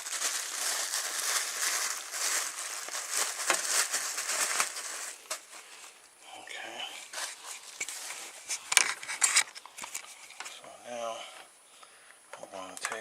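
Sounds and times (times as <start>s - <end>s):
rustling and scraping handling noise: 0.0s - 11.5s.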